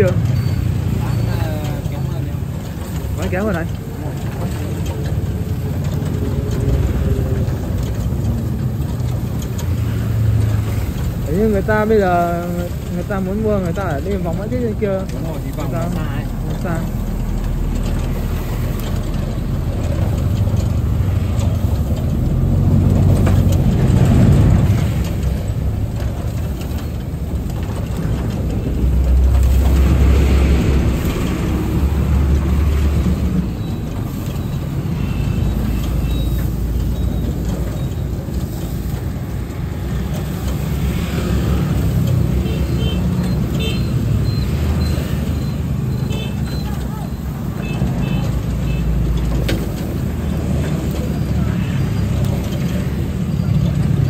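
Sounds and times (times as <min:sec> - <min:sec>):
passing vehicles rumbling: 0:00.0 - 0:54.0.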